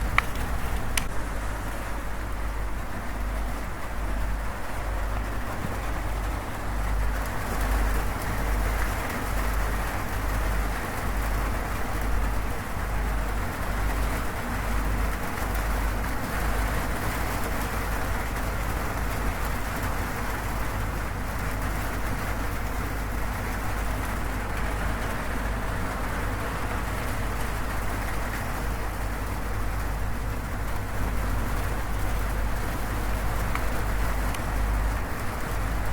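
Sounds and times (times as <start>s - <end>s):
heavy rain on a metal roof: 0.0s - 35.9s.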